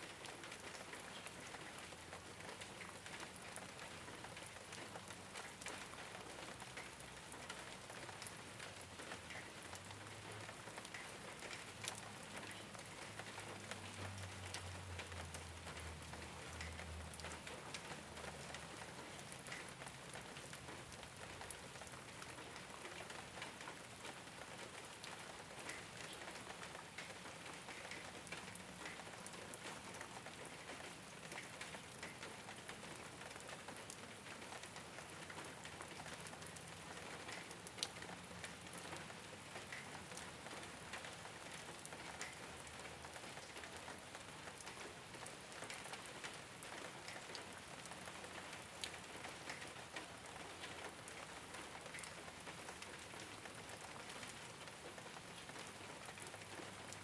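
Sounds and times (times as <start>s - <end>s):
rain on a rooftop: 0.0s - 57.0s.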